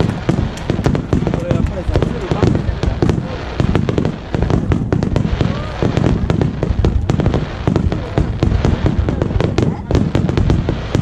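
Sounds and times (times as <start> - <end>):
deep continuous rumble: 0.0 - 11.0
fireworks bangs and crackles: 0.0 - 11.0.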